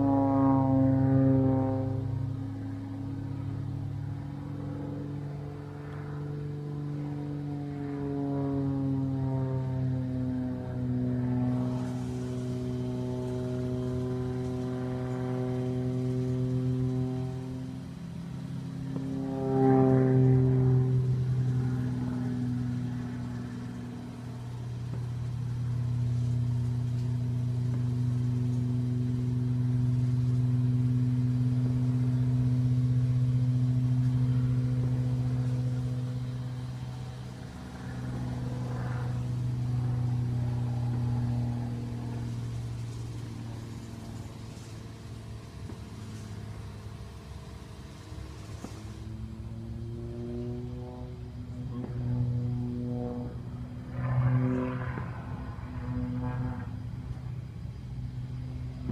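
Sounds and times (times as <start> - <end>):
airplane engine droning overhead: 0.0 - 58.9.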